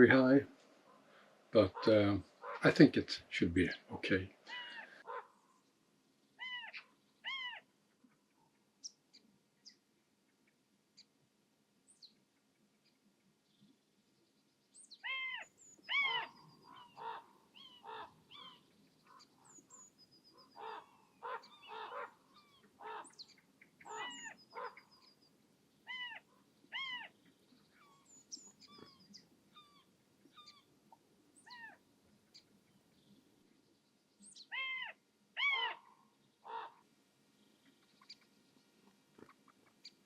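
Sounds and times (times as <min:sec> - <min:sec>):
birds calling: 0:00.0 - 0:08.4, 0:14.8 - 0:33.5, 0:34.2 - 0:40.0.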